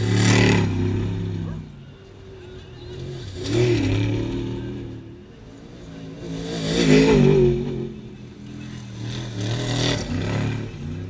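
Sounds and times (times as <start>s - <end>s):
race vehicles speeding past: 0.0s - 11.0s.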